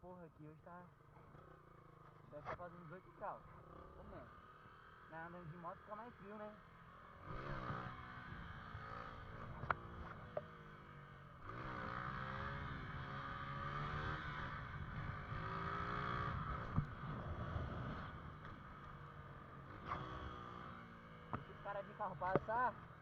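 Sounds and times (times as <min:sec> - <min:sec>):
motorcycle engine revving: 0:00.9 - 0:23.0.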